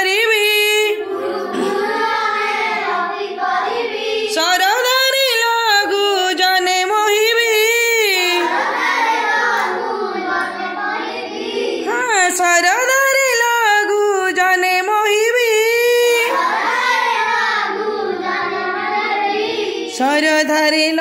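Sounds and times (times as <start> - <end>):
children singing a rhyme: 0.0 - 21.0.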